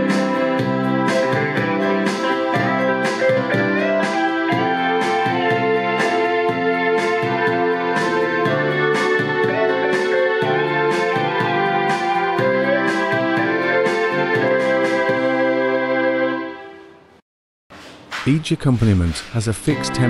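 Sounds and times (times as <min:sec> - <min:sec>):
keyboard and guitar chords: 0:00.0 - 0:16.6.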